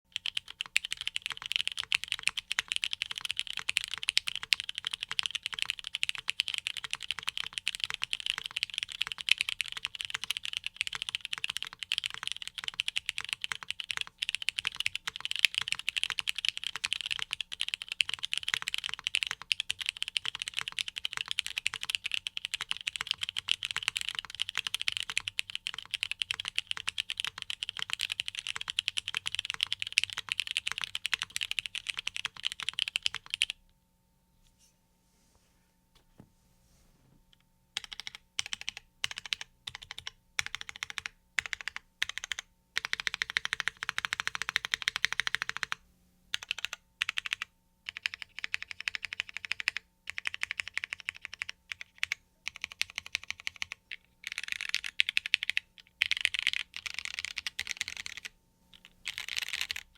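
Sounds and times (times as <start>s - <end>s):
mechanical keyboard typing: 0.1s - 33.6s, 37.8s - 59.9s.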